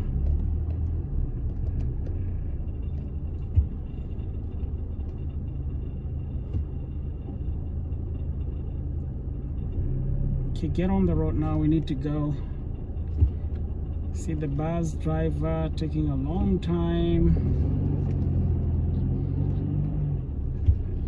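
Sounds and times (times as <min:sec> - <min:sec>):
vehicle engines rumbling in traffic: 0:00.0 - 0:21.0.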